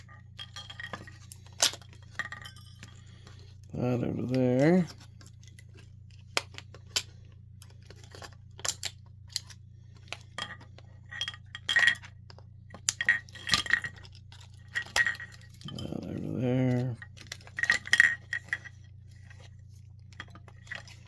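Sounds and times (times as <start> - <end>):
metal parts and tools clinking: 0.0 - 5.5, 6.9 - 21.0.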